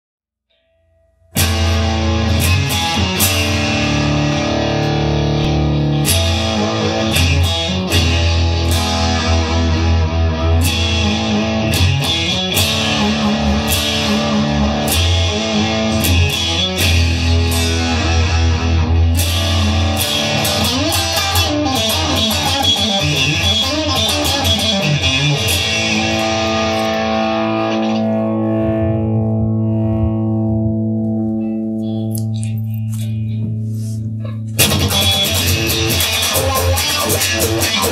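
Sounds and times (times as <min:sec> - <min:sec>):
guitar-led rock music: 0:01.3 - 0:37.9
heavy bass line: 0:01.4 - 0:37.9.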